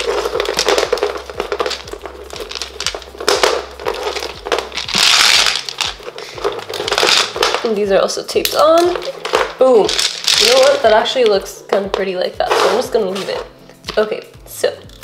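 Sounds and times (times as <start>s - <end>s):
plastic film crinkling: 0.0s - 14.2s.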